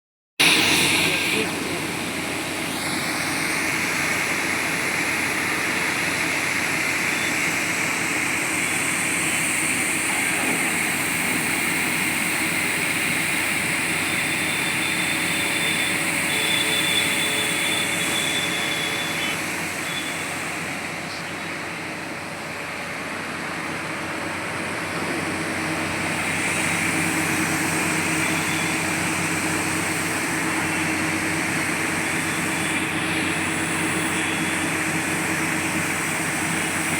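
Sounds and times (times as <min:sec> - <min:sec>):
drilling rig machinery running: 0:00.4 - 0:36.9.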